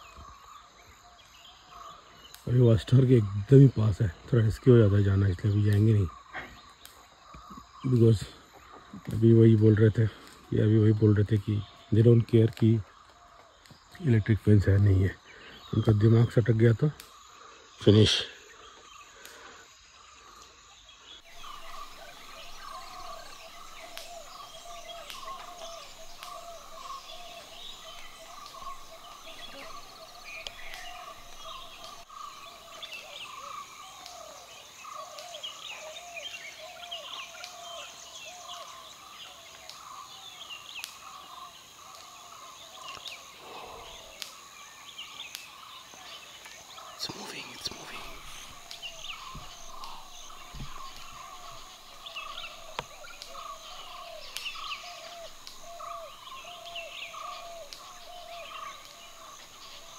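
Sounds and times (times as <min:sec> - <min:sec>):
birds chattering: 0:00.0 - 0:59.9
high insect drone: 0:00.0 - 0:59.9.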